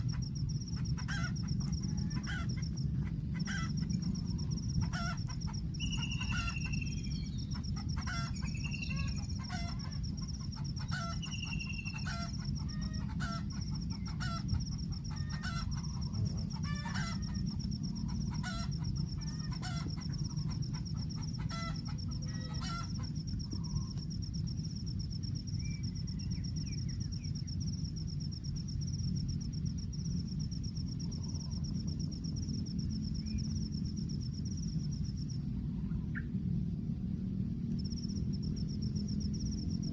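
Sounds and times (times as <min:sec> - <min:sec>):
high insect trill: 0:00.0 - 0:39.9
low outdoor rumble: 0:00.0 - 0:39.9.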